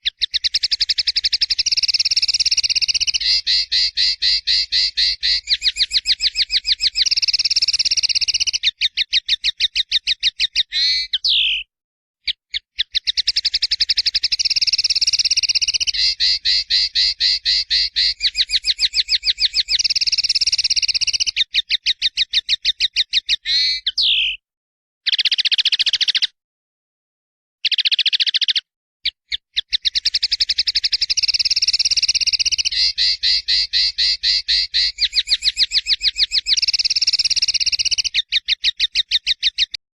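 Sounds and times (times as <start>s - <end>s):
songbird singing trills: 0.0s - 11.7s, 12.3s - 24.4s, 27.6s - 39.8s.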